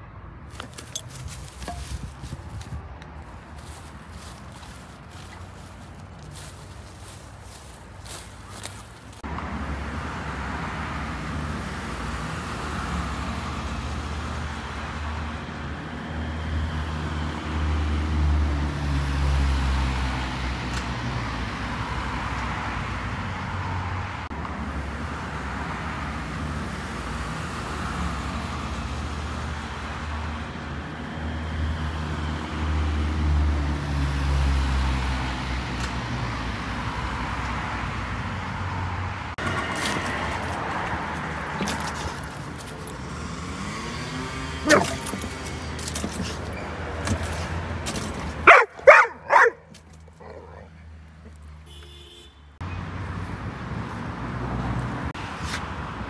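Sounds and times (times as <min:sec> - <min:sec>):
road traffic noise: 0:00.0 - 0:56.0
loud vehicle passing: 0:00.4 - 0:51.6, 0:52.6 - 0:56.0.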